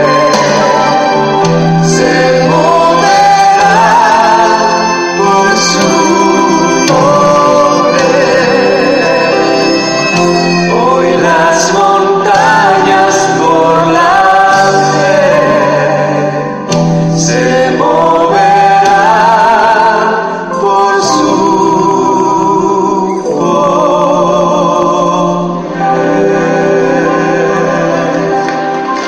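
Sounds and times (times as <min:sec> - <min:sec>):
instrumental accompaniment: 0:00.0 - 0:29.0
voices singing gospel song: 0:00.0 - 0:29.0.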